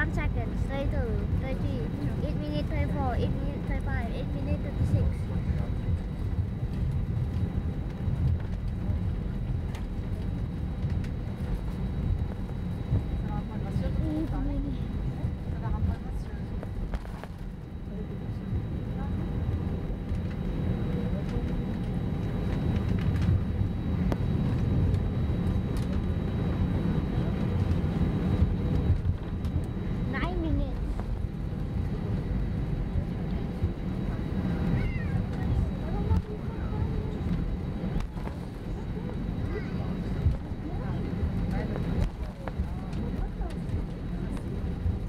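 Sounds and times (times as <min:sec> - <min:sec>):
airliner cabin engine rumble: 0:00.0 - 0:45.0.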